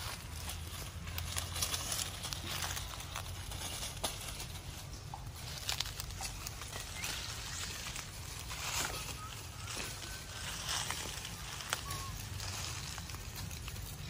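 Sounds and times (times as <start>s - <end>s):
leaves and twigs rustling: 0.0s - 14.0s
low steady rumble: 0.0s - 14.0s.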